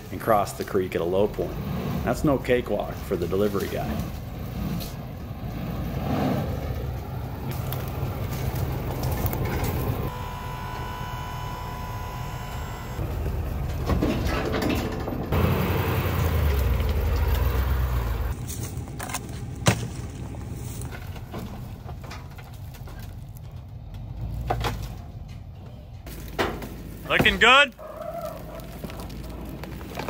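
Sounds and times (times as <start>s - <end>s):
pickup truck engine rumbling: 0.0s - 30.0s.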